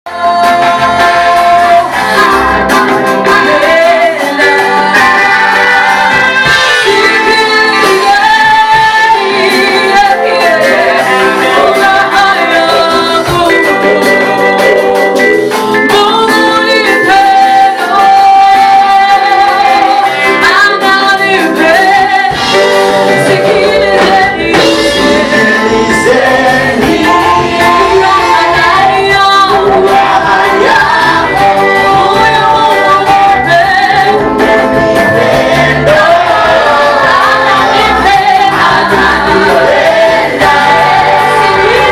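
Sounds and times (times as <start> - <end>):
group singing gospel song: 0.0 - 41.9
instrumental accompaniment: 0.1 - 41.9.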